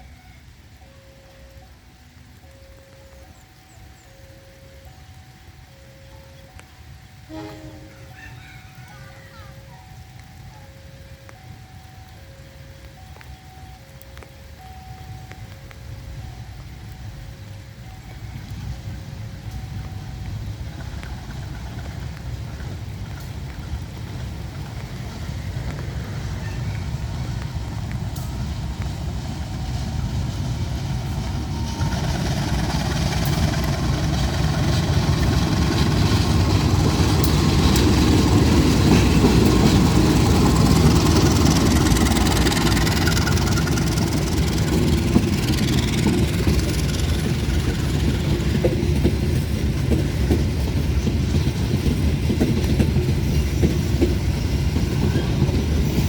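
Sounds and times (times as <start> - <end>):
diesel locomotive engine rumble: 0.0 - 56.0
train wheels on rails: 1.2 - 56.0.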